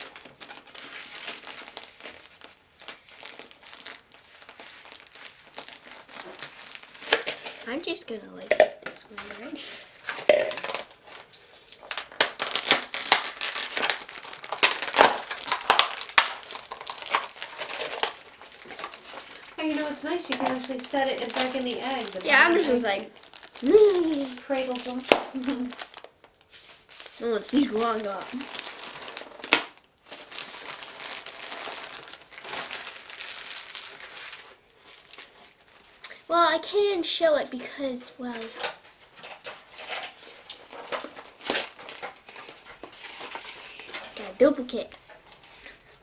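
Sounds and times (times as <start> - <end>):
plastic shell crackling and crinkling: 0.0 - 46.0.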